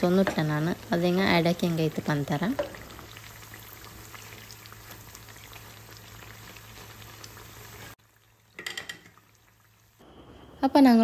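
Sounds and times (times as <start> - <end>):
batter frying in hot oil: 0.0 - 11.0.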